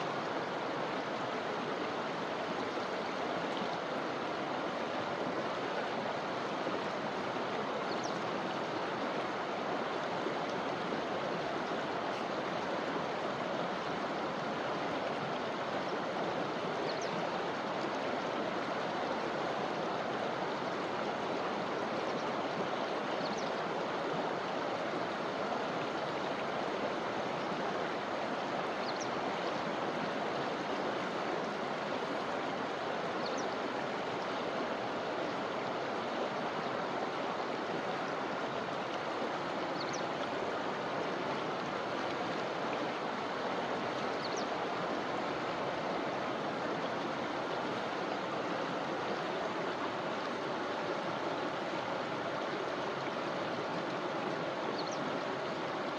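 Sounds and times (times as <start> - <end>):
river rushing over stones: 0.0 - 55.9.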